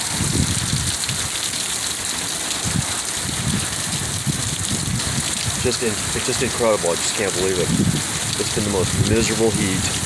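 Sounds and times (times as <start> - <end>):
wind gusts rumbling: 0.0 - 1.4, 2.6 - 10.0
heavy rain pouring: 0.0 - 10.0.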